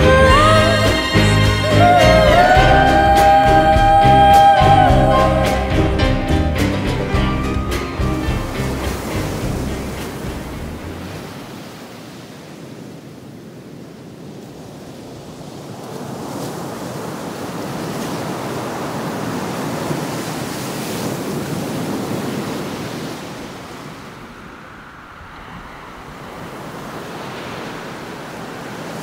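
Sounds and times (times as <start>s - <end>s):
ocean waves: 0.0s - 29.0s
wind: 0.0s - 29.0s.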